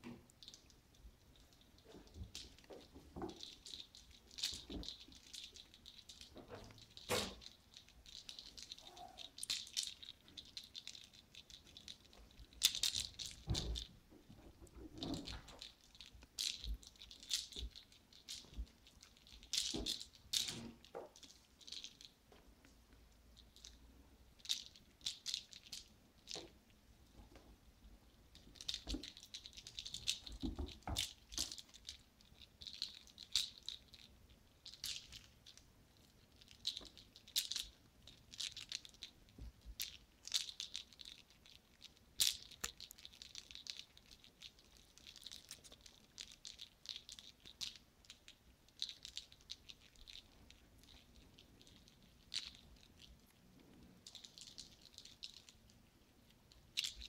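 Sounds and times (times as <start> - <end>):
light rattling and clicking: 0.0 - 22.8, 28.2 - 57.0.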